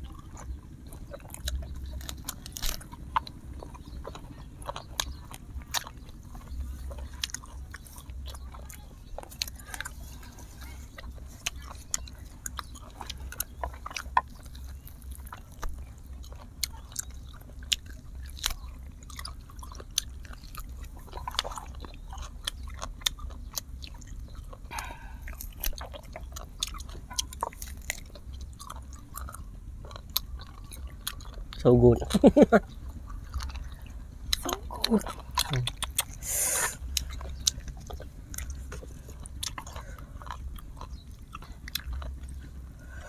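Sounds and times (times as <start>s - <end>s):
chewing with sharp crackles: 0.0s - 43.0s.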